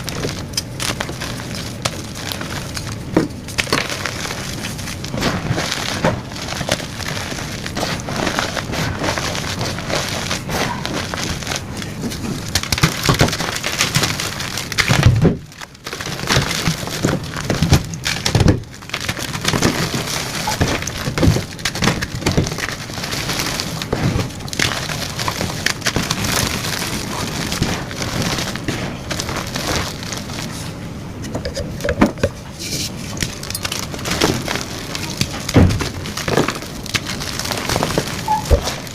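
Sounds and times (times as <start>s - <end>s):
chalk blocks crunching: 0.0s - 38.9s.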